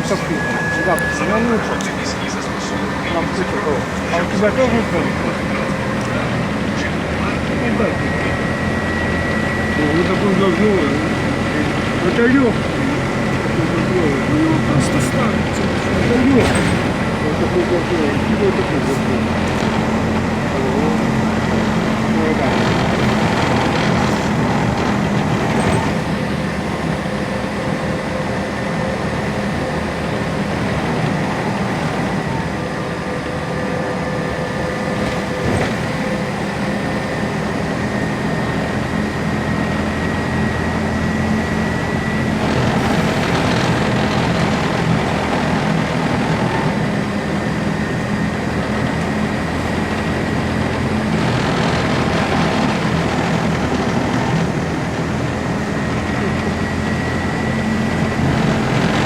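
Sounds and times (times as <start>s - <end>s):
electric traction drive whine: 0.0s - 59.0s
rumble of running gear and road: 5.3s - 59.0s.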